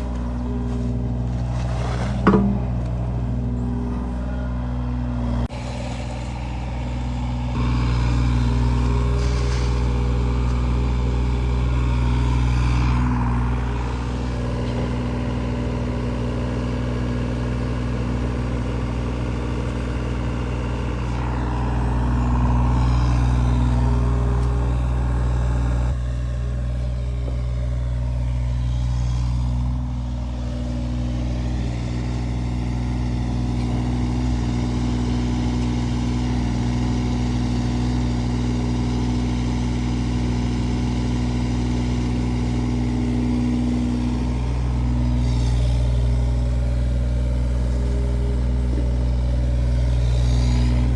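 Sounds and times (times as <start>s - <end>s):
digging machine engine running: 0.0s - 50.9s.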